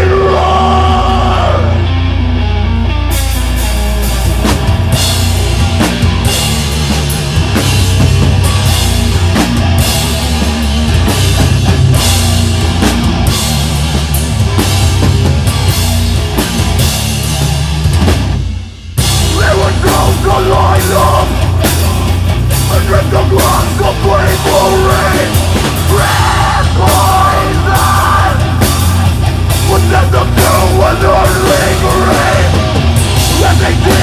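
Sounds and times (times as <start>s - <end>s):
bass guitar: 0.0s - 34.0s
distorted electric guitars: 0.0s - 34.0s
rock drum kit playing: 0.0s - 34.0s.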